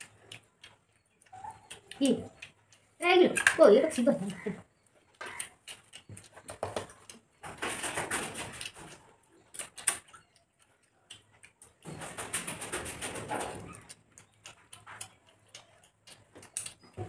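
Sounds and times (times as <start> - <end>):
chewing and mouth smacking: 0.0 - 7.6, 8.3 - 17.0.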